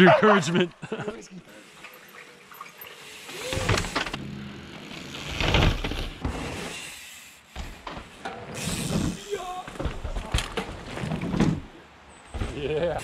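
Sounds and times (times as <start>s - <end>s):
bike tyres rolling on dirt: 1.5s - 13.0s
bikes clattering: 1.5s - 13.0s.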